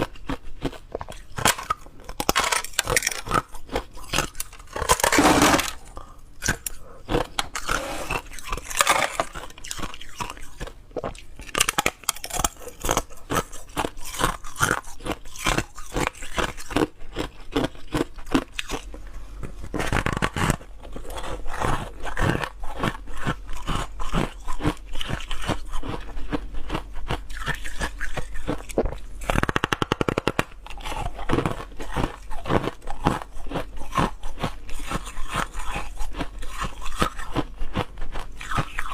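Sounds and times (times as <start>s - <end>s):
ice crunching being chewed: 0.0s - 38.9s.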